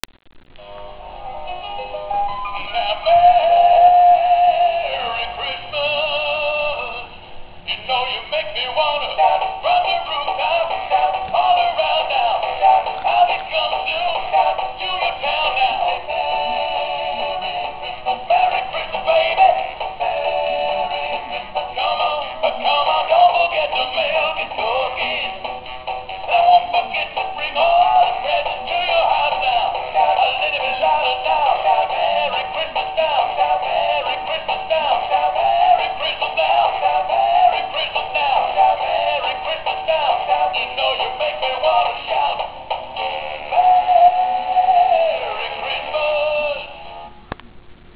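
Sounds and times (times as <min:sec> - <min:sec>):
toy speaker playing christmas song: 0:00.7 - 0:07.1, 0:07.7 - 0:47.1.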